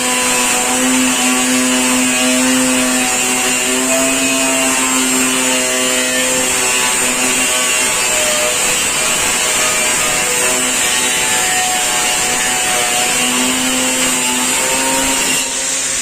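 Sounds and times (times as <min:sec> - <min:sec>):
abrasive disc cutting steel: 0:00.0 - 0:16.0.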